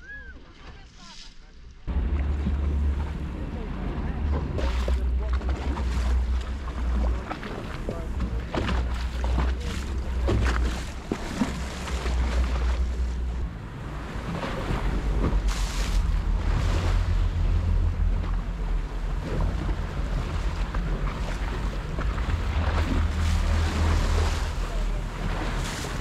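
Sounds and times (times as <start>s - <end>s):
water splashing: 0.0s - 26.0s
boat motor running: 1.8s - 26.0s.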